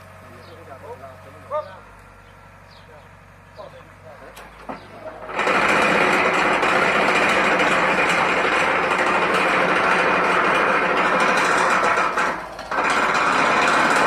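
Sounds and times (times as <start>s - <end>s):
vibratory pile driver running: 0.0s - 14.0s.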